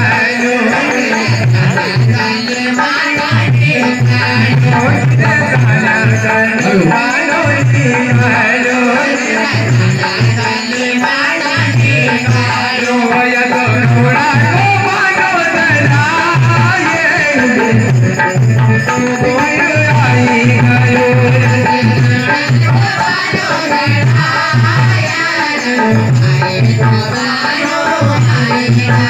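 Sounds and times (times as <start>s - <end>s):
folk singing and melody: 0.0s - 29.0s
hand drum beat: 0.0s - 29.0s.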